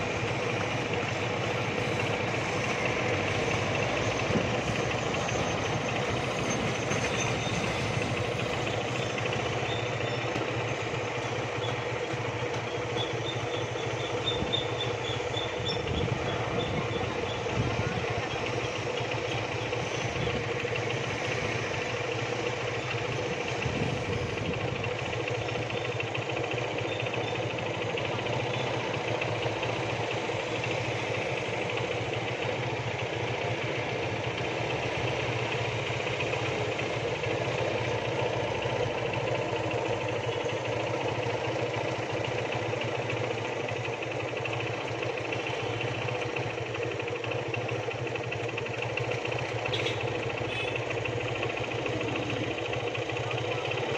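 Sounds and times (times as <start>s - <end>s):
machine engine droning: 0.0s - 53.9s.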